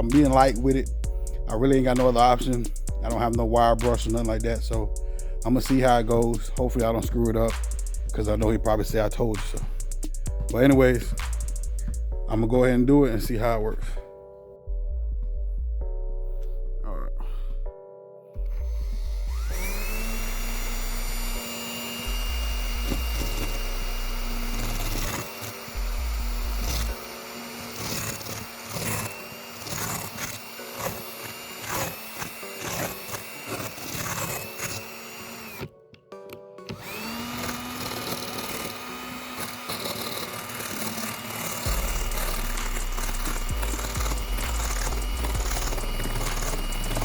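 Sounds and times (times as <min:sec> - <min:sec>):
power drill wire brush scrubbing: 0:00.0 - 0:12.0, 0:18.9 - 0:47.0
background music: 0:00.0 - 0:47.0.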